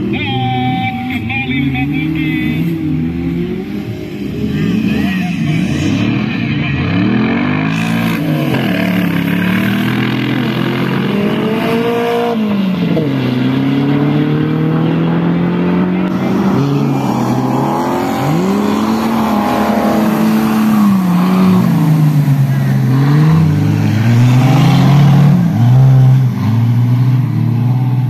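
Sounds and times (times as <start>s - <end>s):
race car engines revving: 0.0s - 28.0s.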